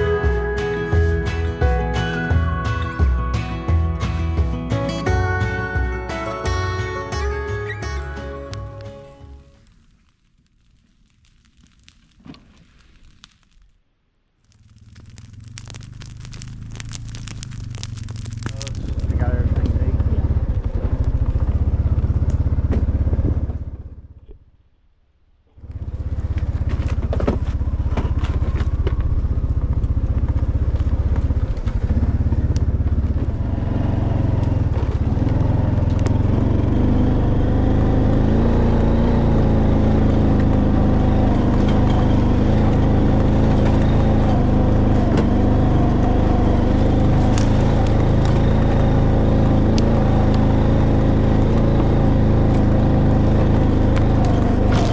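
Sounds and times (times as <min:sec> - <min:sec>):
vehicle engine rumbling: 0:00.0 - 0:09.8, 0:14.4 - 0:54.9.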